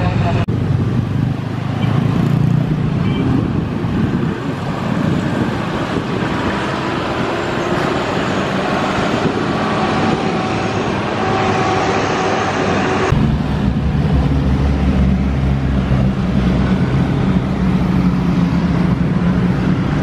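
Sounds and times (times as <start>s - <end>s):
cars passing: 0.0s - 20.0s
motorcycles passing: 0.0s - 20.0s.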